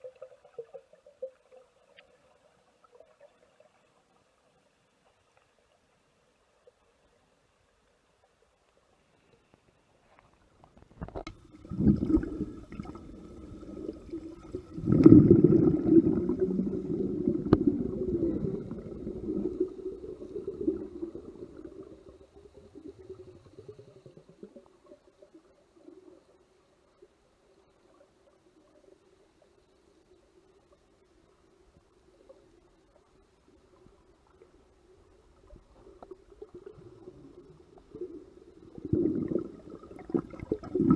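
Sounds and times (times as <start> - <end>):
underwater bubbling and rushing water: 0.0 - 9.3, 10.0 - 40.9
faint steady hum: 0.0 - 40.9.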